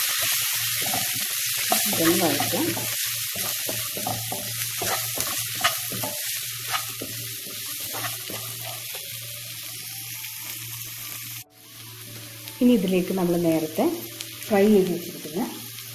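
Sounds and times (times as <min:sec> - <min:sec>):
vegetables sizzling in frying pan: 0:00.0 - 0:15.9.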